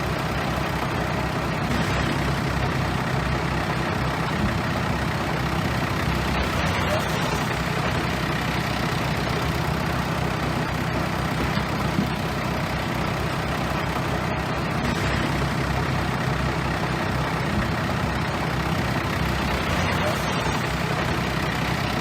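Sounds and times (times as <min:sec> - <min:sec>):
bulldozer diesel engine drone: 0:00.0 - 0:22.0.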